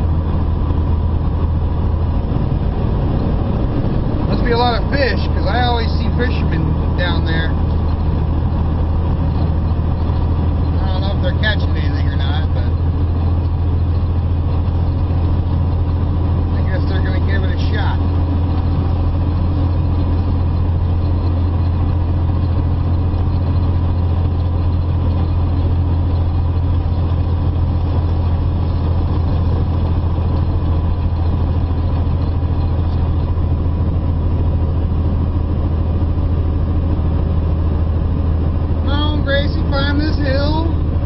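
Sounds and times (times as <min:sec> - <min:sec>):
truck diesel engine droning: 0:00.0 - 0:41.0
tyre and road noise: 0:00.0 - 0:41.0.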